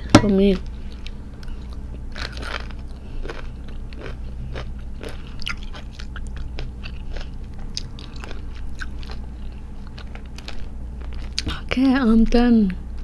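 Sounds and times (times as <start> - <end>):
person chewing crunchy fruit: 0.0 - 11.7.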